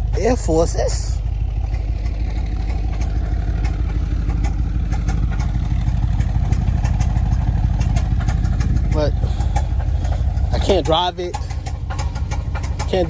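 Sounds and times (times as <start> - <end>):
car engine idling: 0.0 - 13.0
clattering engine tick: 0.0 - 13.0.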